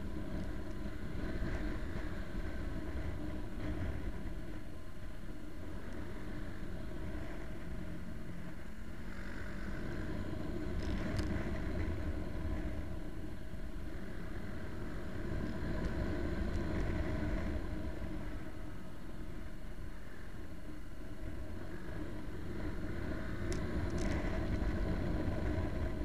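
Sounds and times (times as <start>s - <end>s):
wind noise: 0.0s - 9.0s, 9.7s - 26.0s.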